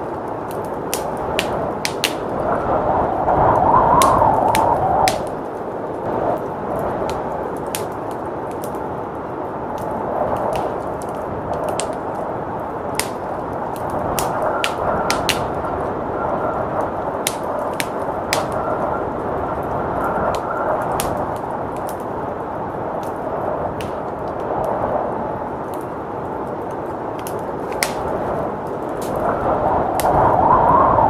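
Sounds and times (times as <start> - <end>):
blizzard wind rushing: 0.0 - 31.0
wood fire crackling and popping: 0.0 - 31.0.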